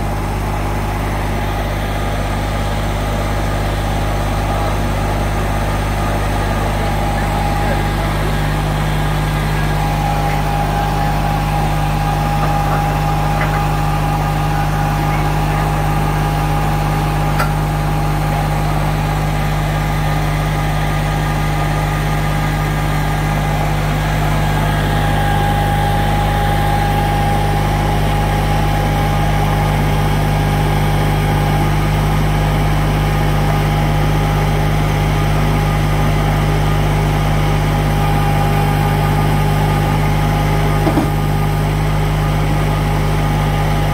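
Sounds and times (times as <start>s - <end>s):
diesel tractor engine running: 0.0s - 43.9s
steady whine: 0.0s - 43.9s.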